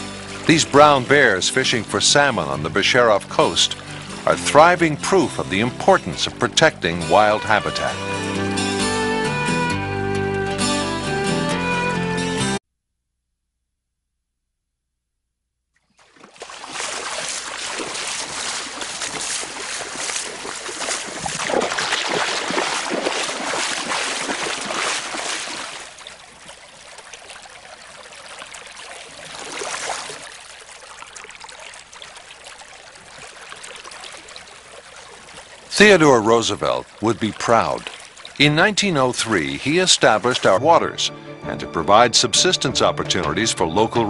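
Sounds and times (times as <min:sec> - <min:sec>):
stream flowing and splashing: 0:00.0 - 0:09.1, 0:15.8 - 0:44.0.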